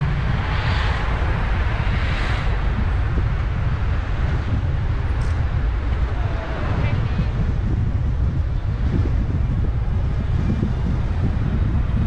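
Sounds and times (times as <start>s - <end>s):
road and engine rumble: 0.0s - 12.0s
wind noise: 0.0s - 12.0s.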